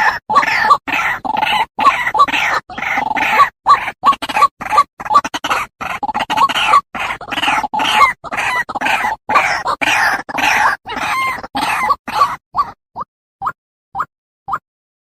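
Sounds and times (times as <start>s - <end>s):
waterhen calling: 0.0s - 12.8s.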